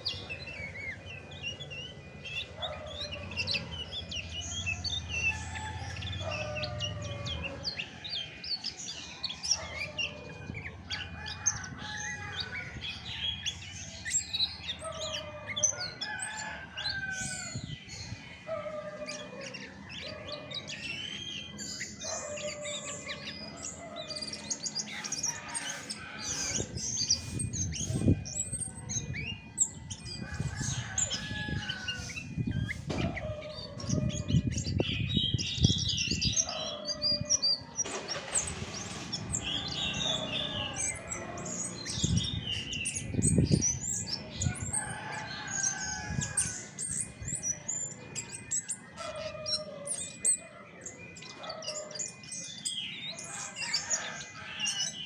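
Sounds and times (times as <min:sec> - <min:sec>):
other birds chirping: 0:00.0 - 0:55.0.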